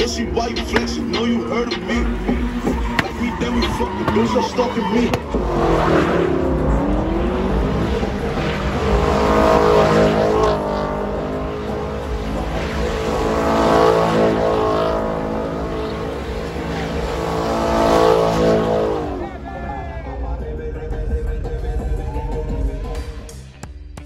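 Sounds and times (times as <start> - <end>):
car engine revving hard: 0.0 - 19.6.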